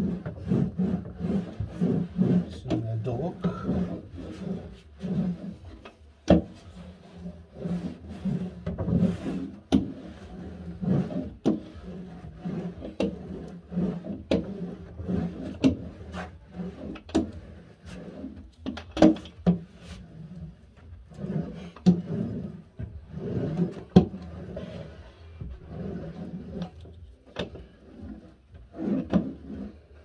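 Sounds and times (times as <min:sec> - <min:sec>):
hand roller rubbing on cork: 0:00.0 - 0:30.0.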